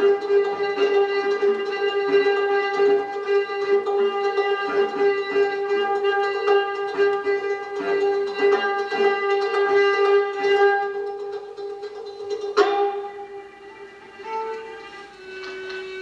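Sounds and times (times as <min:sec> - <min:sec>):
plucked string notes: 0:00.0 - 0:16.0.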